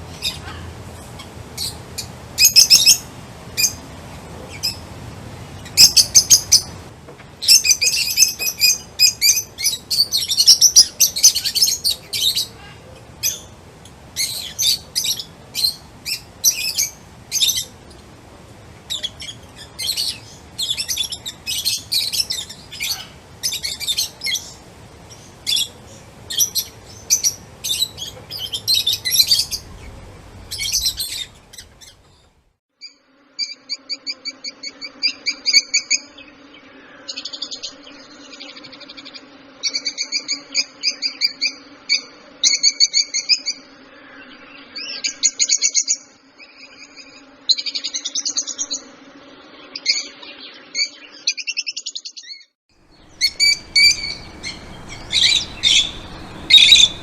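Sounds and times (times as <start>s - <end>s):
songbirds chirping: 0.0s - 34.2s, 34.8s - 41.6s, 46.4s - 57.0s.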